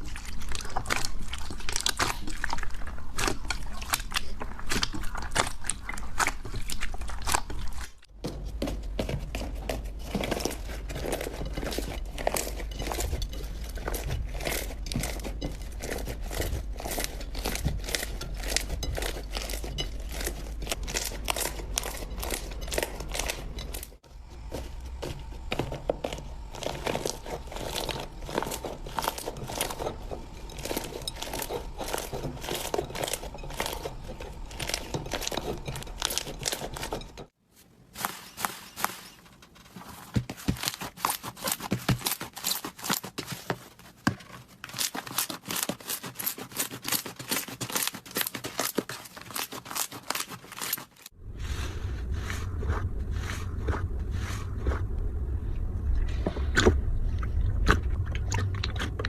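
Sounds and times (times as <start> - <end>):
slime crackling and squelching: 0.0 - 59.0.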